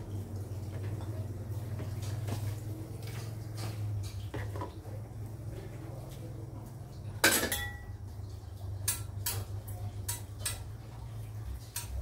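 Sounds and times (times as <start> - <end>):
soup simmering hum: 0.0 - 12.0.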